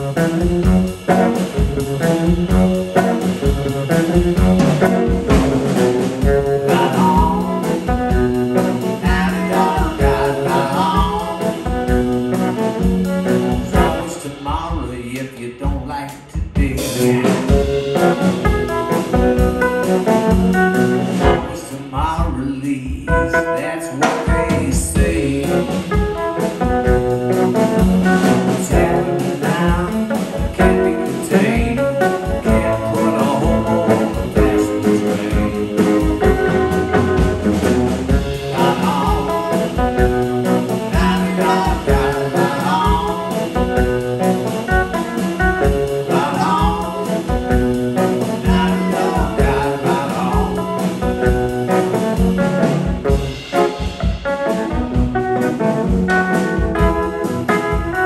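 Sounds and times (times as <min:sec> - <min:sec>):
live band playing blues: 0:00.0 - 0:58.0.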